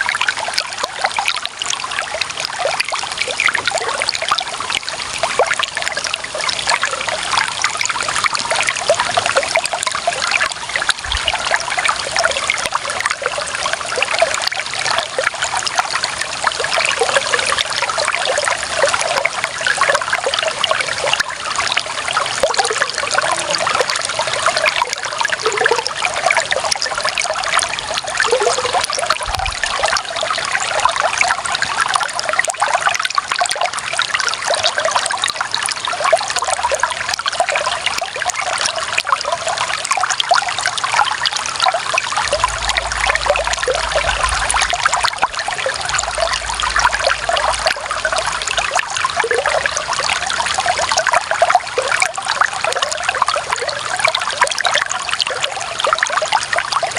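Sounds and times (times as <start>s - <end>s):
water running and trickling: 0.0s - 56.9s.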